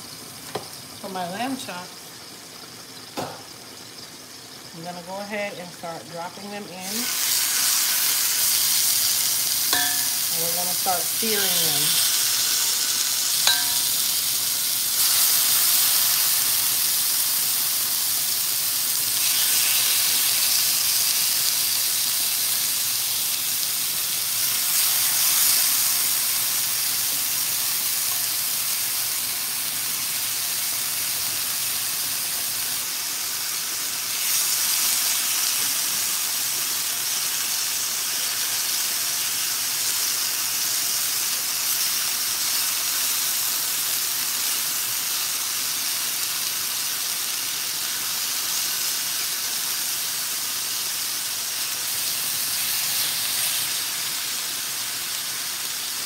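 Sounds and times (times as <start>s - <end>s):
meat sizzling in a skillet: 0.0s - 56.0s.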